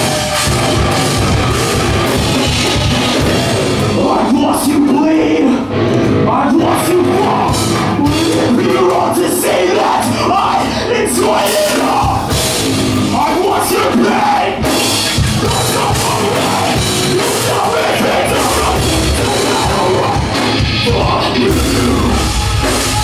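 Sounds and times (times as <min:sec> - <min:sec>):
heavy rock band playing: 0:00.0 - 0:23.0
singer's vocals: 0:02.1 - 0:23.0.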